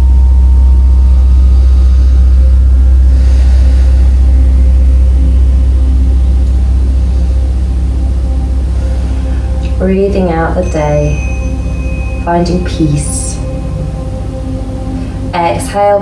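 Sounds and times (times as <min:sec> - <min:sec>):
faint high steady tones: 0:00.0 - 0:16.0
loud low hum: 0:00.0 - 0:16.0.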